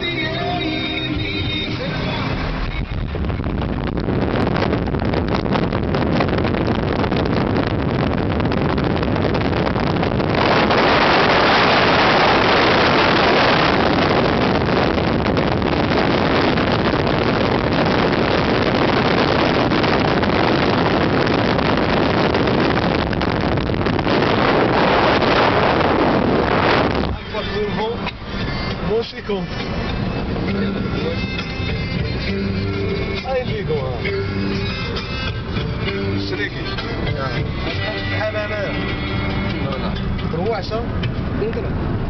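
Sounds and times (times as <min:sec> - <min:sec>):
wind rush and road noise in car: 0:00.0 - 0:42.0.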